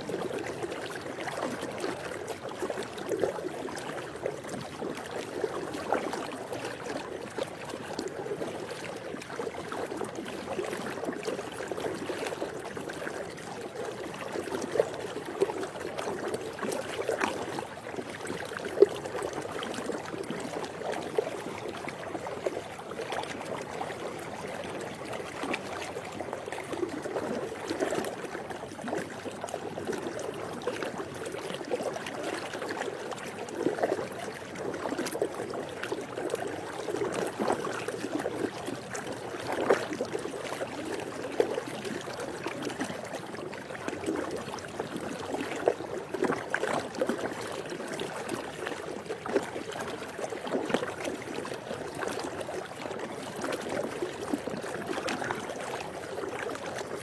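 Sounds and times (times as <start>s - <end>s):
pool water splashing: 0.0s - 57.0s.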